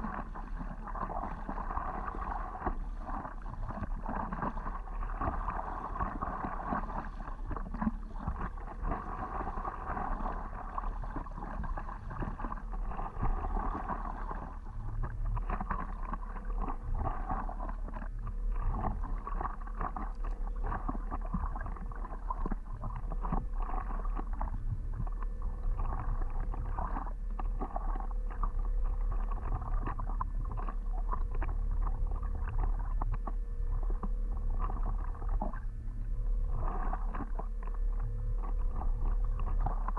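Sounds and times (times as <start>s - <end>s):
constant low rumble: 0.0s - 39.9s
water lapping and splashing: 0.0s - 39.9s.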